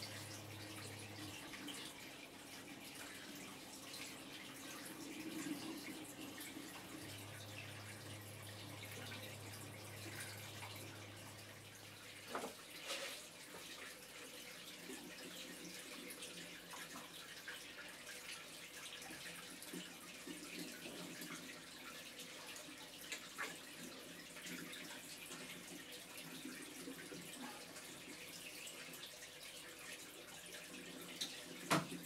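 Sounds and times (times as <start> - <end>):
aquarium water trickling: 0.0 - 32.0.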